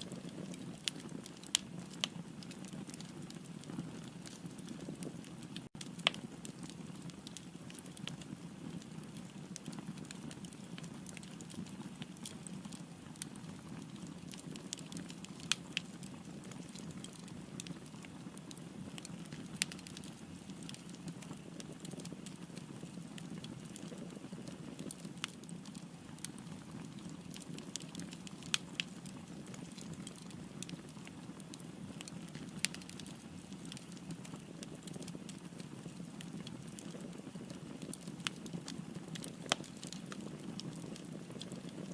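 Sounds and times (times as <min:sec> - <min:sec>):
fire crackling: 0:00.0 - 0:41.9
fire popping: 0:00.0 - 0:41.9.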